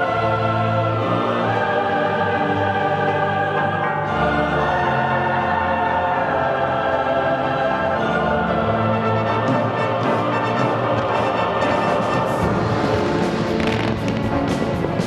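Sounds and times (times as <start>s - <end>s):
choir singing sustained chords: 0.0s - 15.0s
orchestral music: 0.0s - 15.0s.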